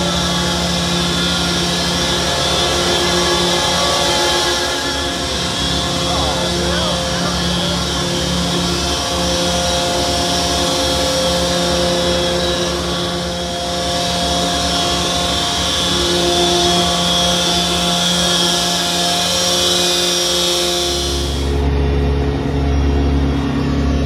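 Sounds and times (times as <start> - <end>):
truck engine and vacuum pump drone: 0.0 - 24.0.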